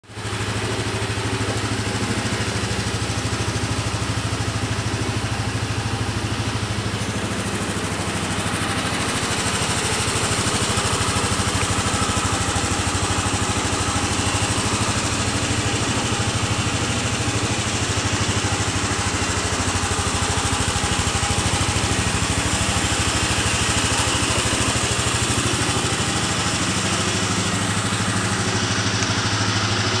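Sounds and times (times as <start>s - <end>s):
scooter engine idling: 0.0s - 30.0s.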